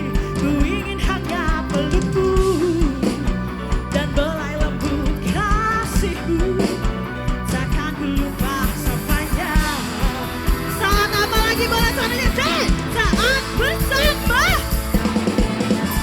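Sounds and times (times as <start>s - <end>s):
band playing wavering melody: 0.0s - 16.0s
steady drum beat: 0.0s - 16.0s.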